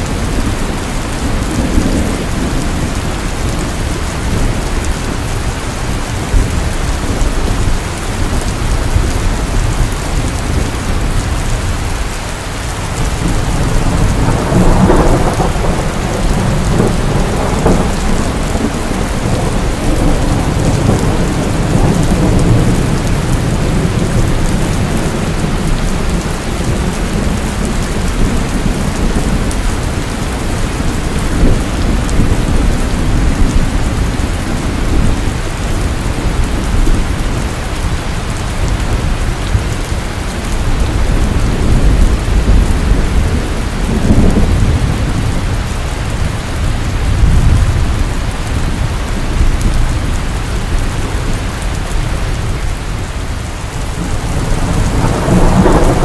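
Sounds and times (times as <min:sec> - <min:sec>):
heavy rain pouring: 0:00.0 - 0:56.0
rolling thunder: 0:00.0 - 0:56.0.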